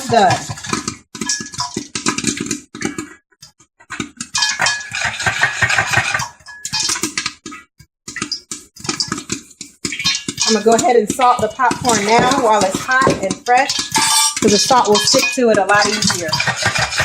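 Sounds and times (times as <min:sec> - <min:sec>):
popcorn rattling in shaken pot: 0:00.0 - 0:03.1, 0:04.0 - 0:07.4, 0:08.1 - 0:17.0.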